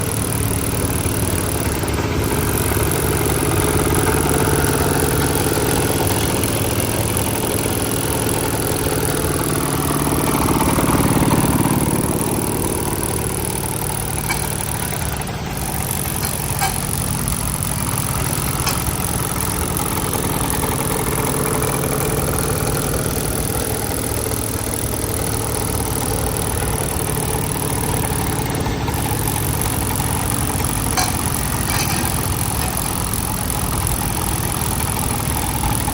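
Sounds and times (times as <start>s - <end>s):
compactor engine running: 0.0s - 35.9s.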